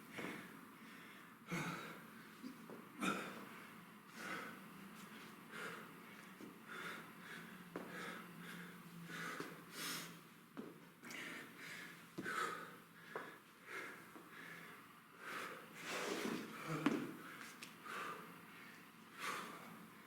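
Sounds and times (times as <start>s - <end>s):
man breathing hard: 0.1s - 10.3s, 11.0s - 20.0s.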